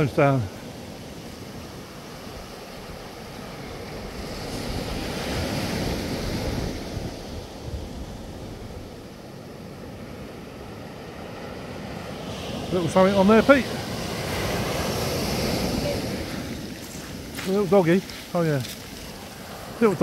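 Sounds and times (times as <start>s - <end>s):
small waves breaking on beach: 0.0s - 20.0s
wind on microphone: 1.3s - 10.6s, 11.8s - 20.0s.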